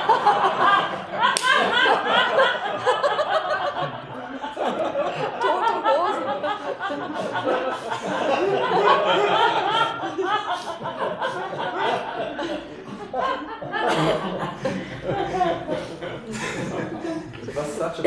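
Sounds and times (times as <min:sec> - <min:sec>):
people laughing together: 0:00.0 - 0:18.0.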